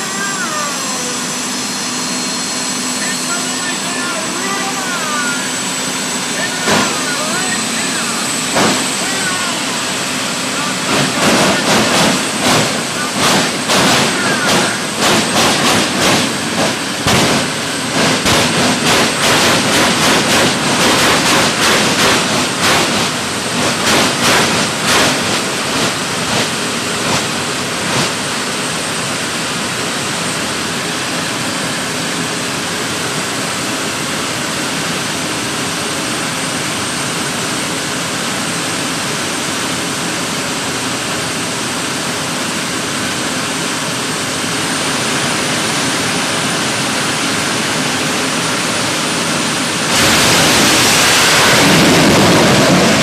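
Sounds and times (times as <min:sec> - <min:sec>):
turbine engines rushing: 0:00.0 - 0:53.0.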